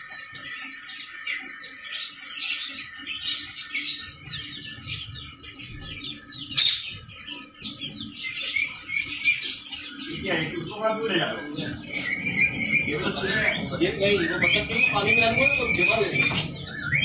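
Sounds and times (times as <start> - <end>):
chicks and ducklings peeping: 0.0 - 17.0.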